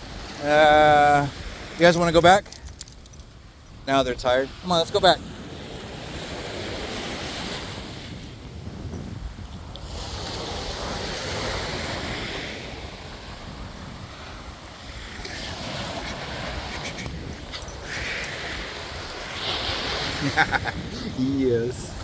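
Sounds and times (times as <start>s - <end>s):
ocean surf washing ashore: 0.0s - 2.5s, 3.9s - 22.0s
wind buffeting microphone: 0.0s - 22.0s.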